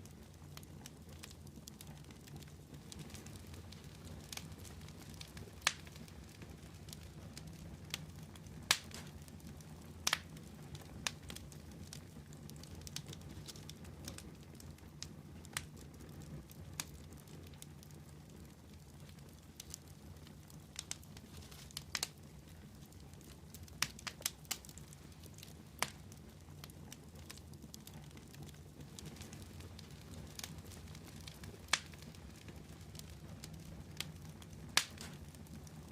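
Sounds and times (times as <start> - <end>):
wood fire crackling and popping: 0.0 - 35.9.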